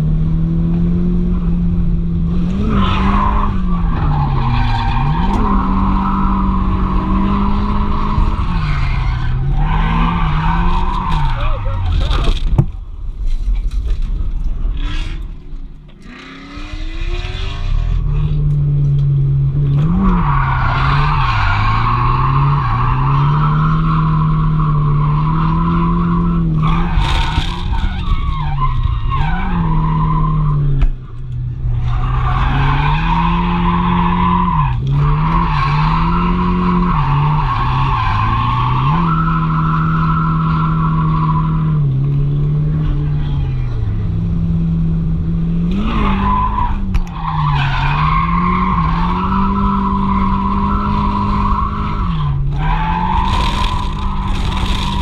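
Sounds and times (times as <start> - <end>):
car engine revving: 0.0 - 12.8, 14.5 - 55.0.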